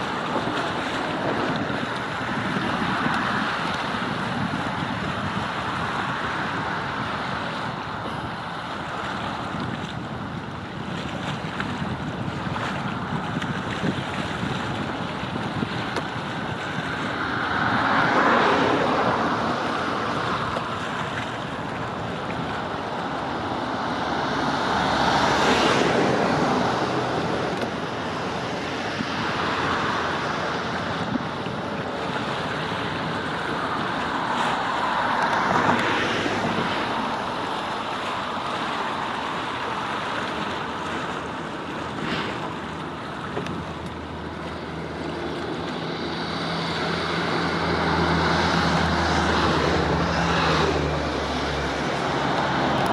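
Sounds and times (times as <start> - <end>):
water rushing: 0.0 - 52.9.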